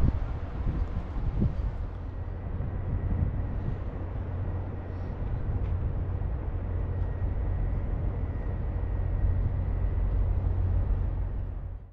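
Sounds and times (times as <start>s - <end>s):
train rumbling: 0.0s - 11.9s.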